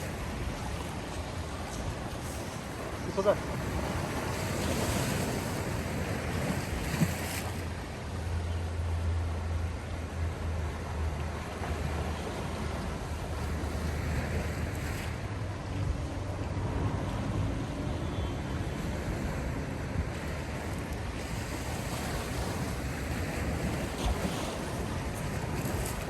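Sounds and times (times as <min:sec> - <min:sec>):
sea waves washing in: 0:00.0 - 0:26.0
wind rumble on microphone: 0:00.0 - 0:26.0.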